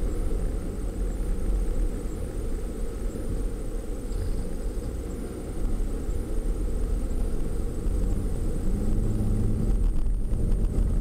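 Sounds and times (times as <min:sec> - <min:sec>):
van engine rumble from inside: 0:00.0 - 0:11.0.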